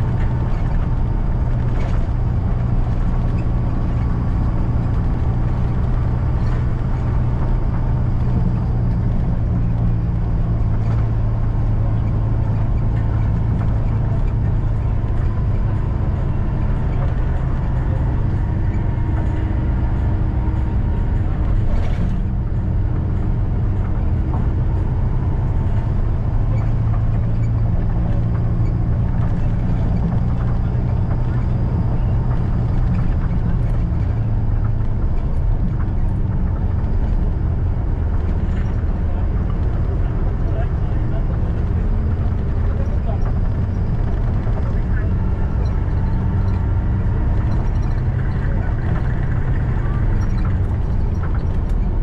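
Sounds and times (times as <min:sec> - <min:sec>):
bus engine drone: 0:00.0 - 0:52.0
road noise: 0:00.0 - 0:52.0.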